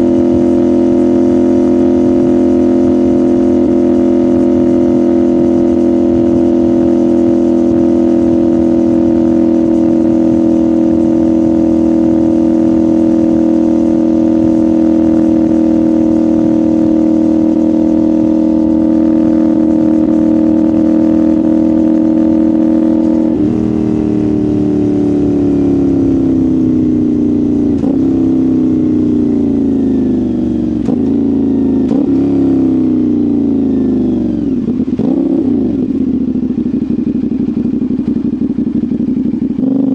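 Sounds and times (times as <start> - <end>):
motorcycle engine and exhaust: 0.0 - 39.9
quick gear downshifts: 0.0 - 39.9.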